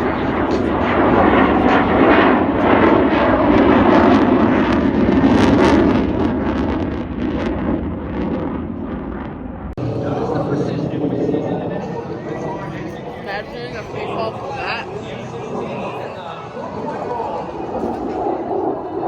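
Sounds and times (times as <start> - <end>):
airplane engine flying past: 0.0 - 19.0.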